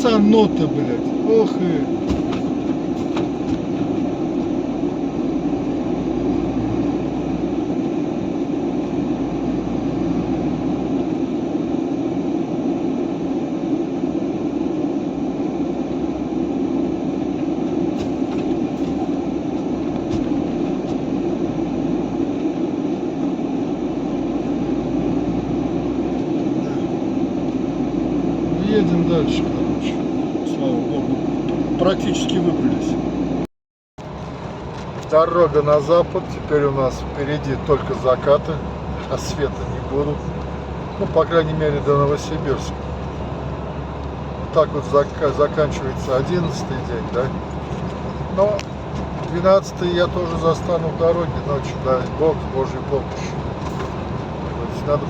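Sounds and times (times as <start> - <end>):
truck engine and road drone: 0.0 - 55.0.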